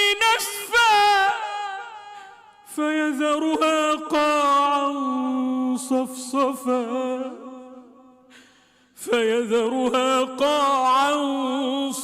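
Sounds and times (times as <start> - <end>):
man chanting melodically: 0.0 - 7.8, 9.0 - 12.0.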